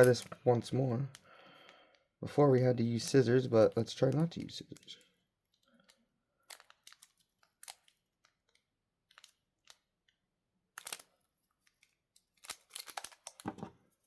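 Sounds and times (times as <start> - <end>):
plastic wrapper crinkling: 0.0 - 0.4, 2.9 - 14.0.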